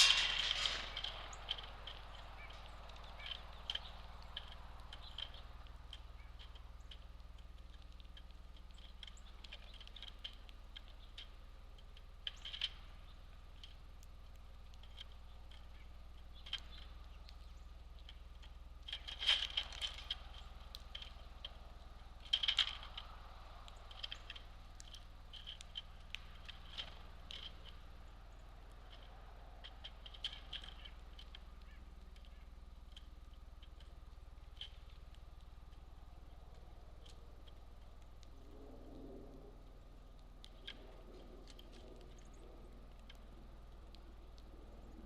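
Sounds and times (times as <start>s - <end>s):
small birds chip notes: 0.0s - 45.0s.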